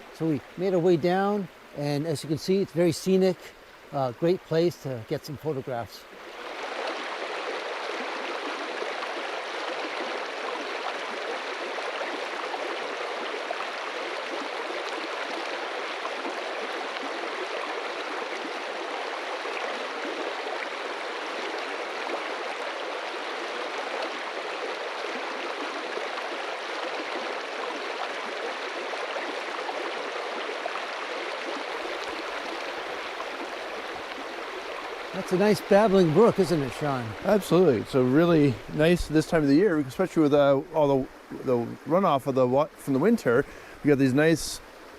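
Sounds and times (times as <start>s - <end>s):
brook babbling over rocks: 0.0s - 44.9s.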